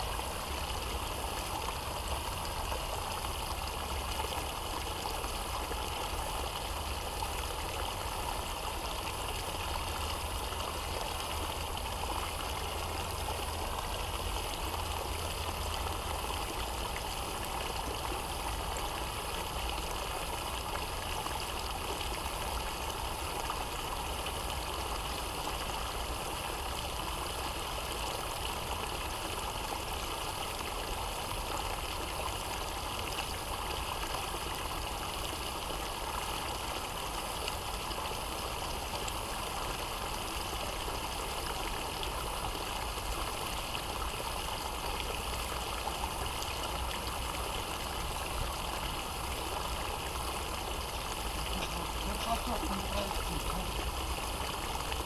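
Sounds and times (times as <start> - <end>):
brook babbling: 0.0 - 55.0.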